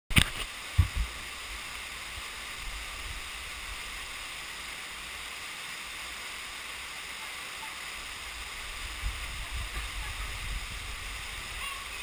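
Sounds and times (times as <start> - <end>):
rushing water in cave: 0.1 - 12.0.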